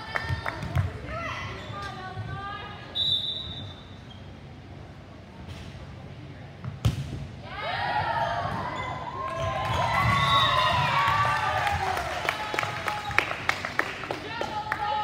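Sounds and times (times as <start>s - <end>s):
murmur of gym crowd: 0.0s - 15.0s.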